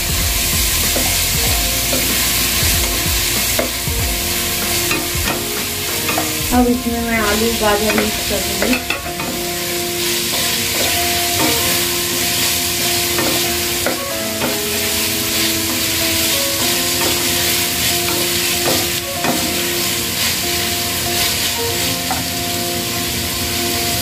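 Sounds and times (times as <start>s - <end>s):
vegetables sizzling in a pot: 0.0s - 24.0s
spatula scraping and knocking pan: 0.2s - 19.8s.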